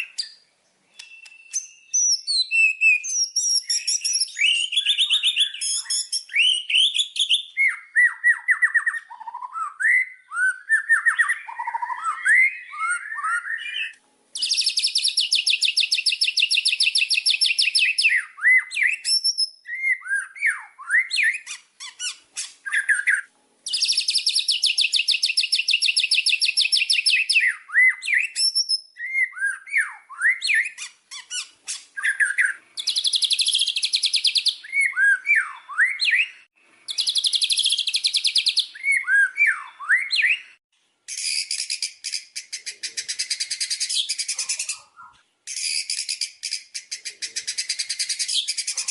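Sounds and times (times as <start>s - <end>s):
bird singing whistled phrases: 0.0s - 48.9s.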